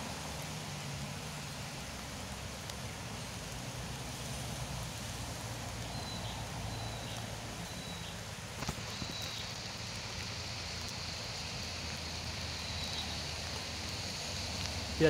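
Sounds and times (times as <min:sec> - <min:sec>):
rain falling on water and leaves: 0:00.0 - 0:15.0.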